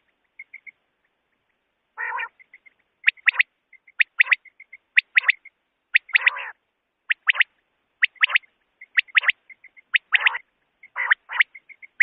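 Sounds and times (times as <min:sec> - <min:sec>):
quail calling: 0:00.0 - 0:12.0.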